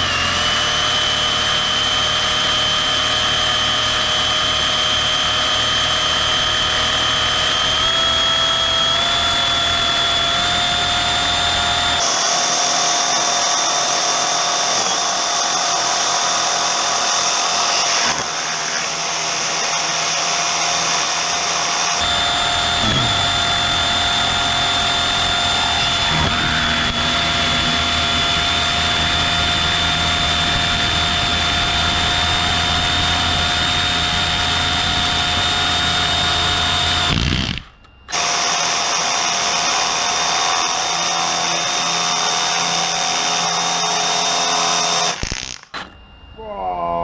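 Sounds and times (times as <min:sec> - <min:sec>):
electric motor high-pitched whine: 0:00.0 - 0:46.4.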